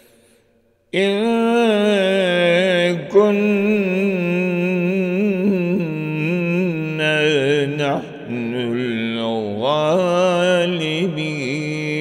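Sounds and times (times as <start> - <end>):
man chanting melodically: 1.0 - 12.0.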